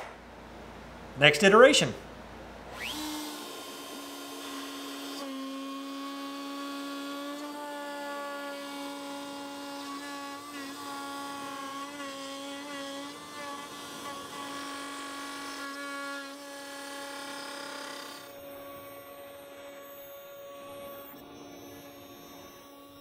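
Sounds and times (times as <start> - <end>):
router cutting plywood: 2.8 - 23.0.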